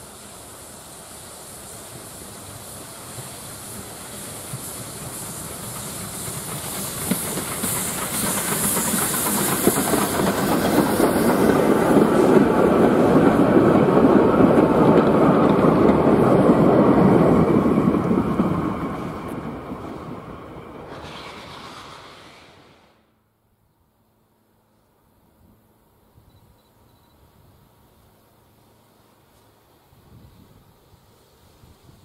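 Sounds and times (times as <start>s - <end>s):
steam locomotive hissing: 0.0s - 23.2s, 27.3s - 32.0s.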